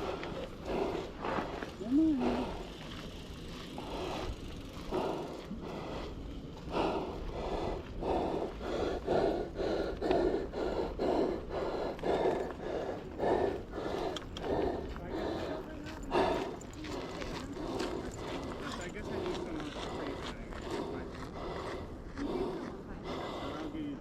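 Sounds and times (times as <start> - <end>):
person panting hard: 0.0 - 24.0.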